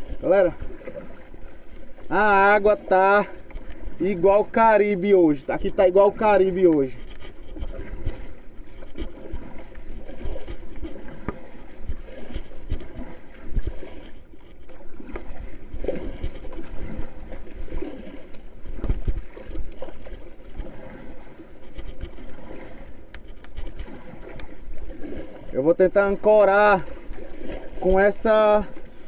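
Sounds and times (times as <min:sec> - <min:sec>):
sea water sloshing: 0:00.0 - 0:29.0.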